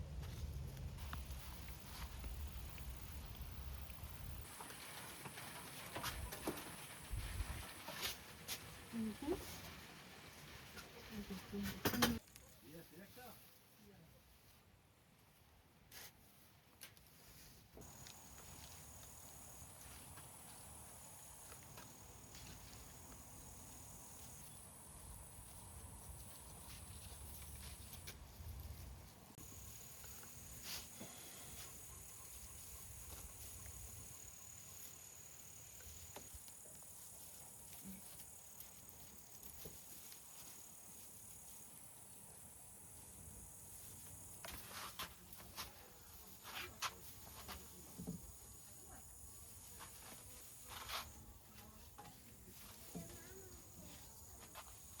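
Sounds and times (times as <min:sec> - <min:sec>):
insects chirping: 0:01.0 - 0:09.9, 0:17.8 - 0:55.0.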